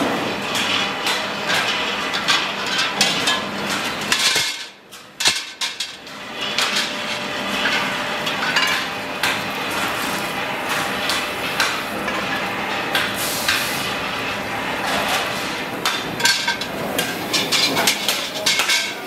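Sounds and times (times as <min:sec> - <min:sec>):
metal wheel rims clanking: 0:00.4 - 0:19.0.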